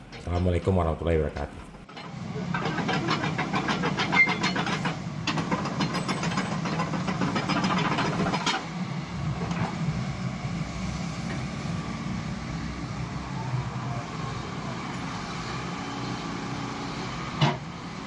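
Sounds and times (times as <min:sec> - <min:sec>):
excavator diesel engine humming: 0:01.5 - 0:18.0.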